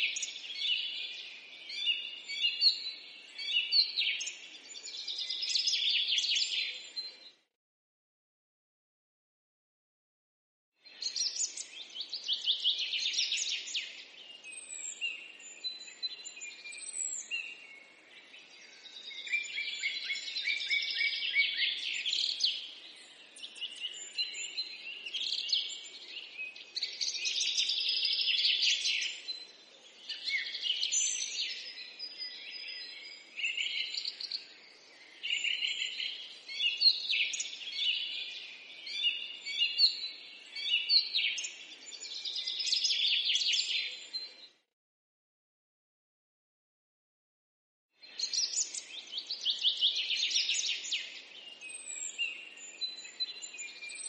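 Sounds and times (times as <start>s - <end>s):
small birds chirping: 0.0s - 7.5s, 10.8s - 44.7s, 48.0s - 54.0s.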